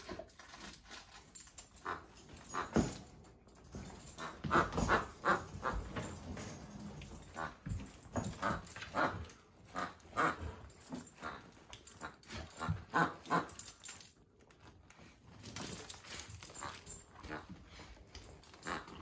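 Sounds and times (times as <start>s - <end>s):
dog playing with plush toy: 0.0s - 19.0s.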